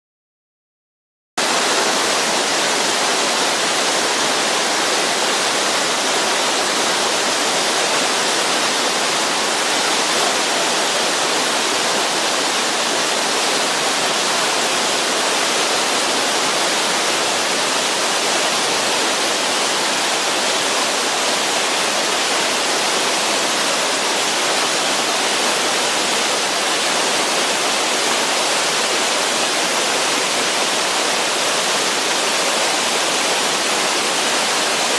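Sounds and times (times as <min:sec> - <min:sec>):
waterfall roaring: 0:01.4 - 0:34.9.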